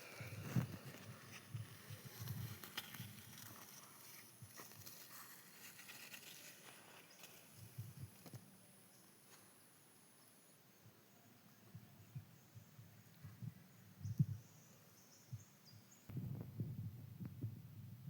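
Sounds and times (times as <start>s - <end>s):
faint outdoor ambience: 0.0s - 18.0s.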